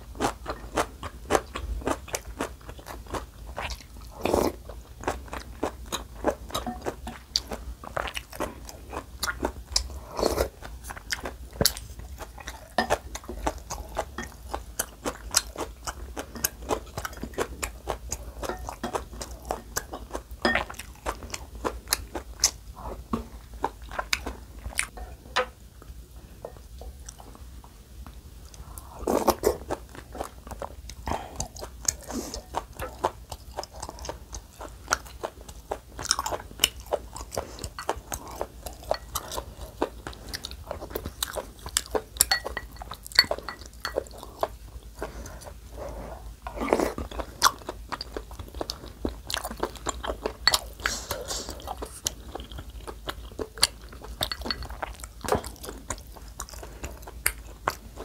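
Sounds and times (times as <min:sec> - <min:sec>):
close chewing: 0:00.0 - 0:25.0, 0:28.5 - 0:58.0.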